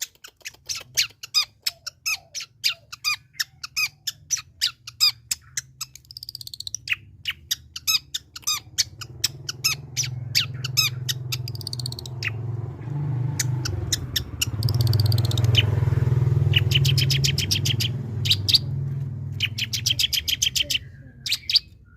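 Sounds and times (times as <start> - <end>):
bird singing sharp rapid notes: 0.0 - 21.9.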